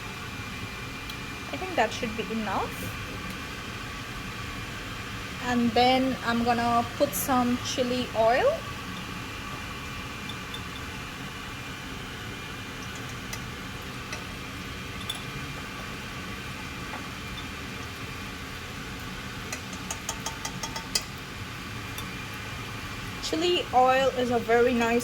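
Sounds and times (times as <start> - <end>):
background hum and hiss: 0.0 - 25.0.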